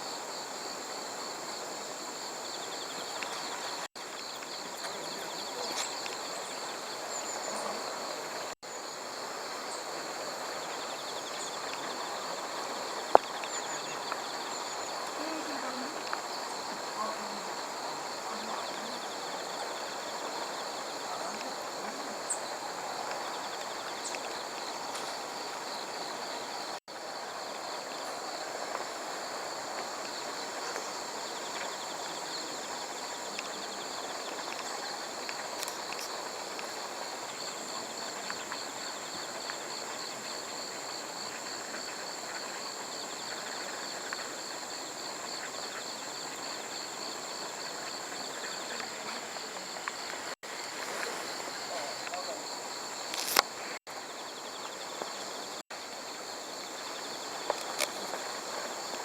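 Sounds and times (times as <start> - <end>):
insects chirping in a high trill: 0.0 - 59.0
outdoor background hiss: 0.0 - 59.0.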